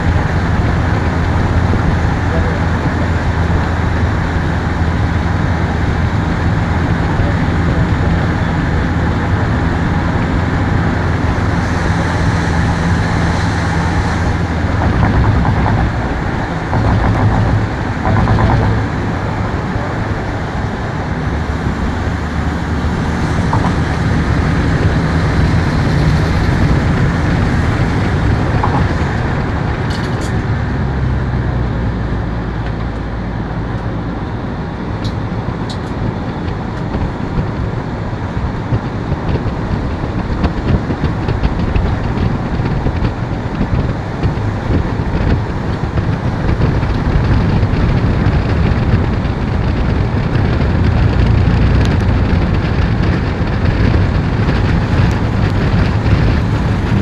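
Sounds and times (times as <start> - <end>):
traffic rushing hiss: 0.0 - 57.0
vehicle engines humming: 0.0 - 57.0.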